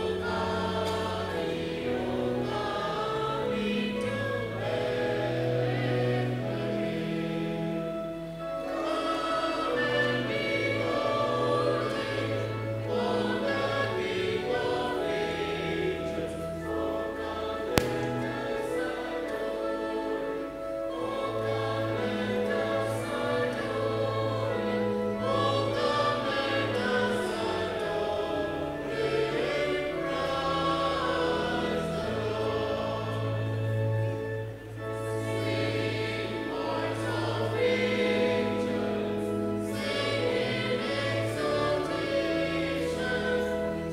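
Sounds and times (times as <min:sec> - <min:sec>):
choir singing: 0:00.0 - 0:43.9
low held accompaniment notes: 0:00.0 - 0:43.9.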